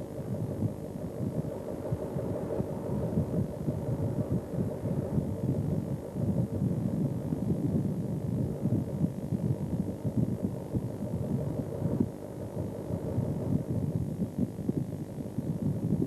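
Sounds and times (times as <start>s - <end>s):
wind buffeting microphone: 0.2s - 16.0s.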